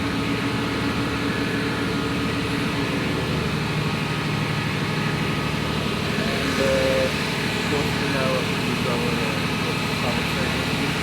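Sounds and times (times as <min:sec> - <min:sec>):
diesel machinery running: 0:00.0 - 0:11.0
ventilation running: 0:00.0 - 0:11.0.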